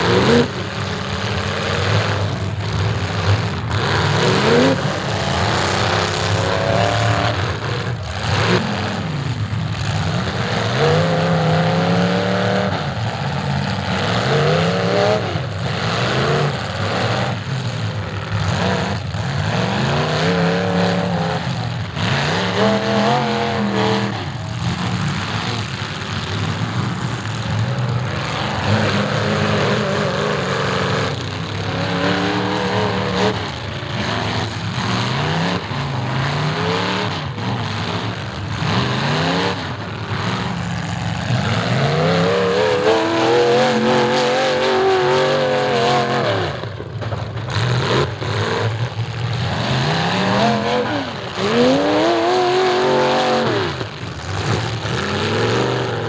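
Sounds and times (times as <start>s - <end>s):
car engines revving hard: 0.0s - 56.0s
engines running: 0.0s - 56.0s.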